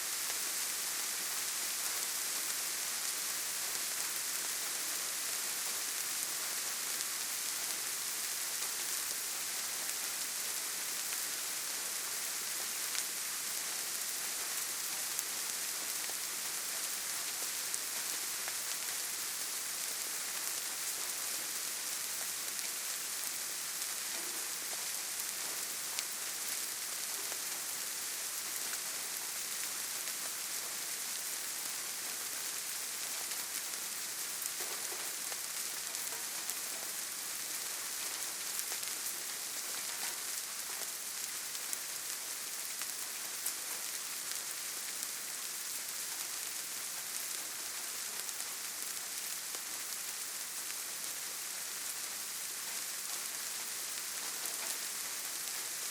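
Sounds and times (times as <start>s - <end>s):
light rain pattering: 0.0s - 55.9s.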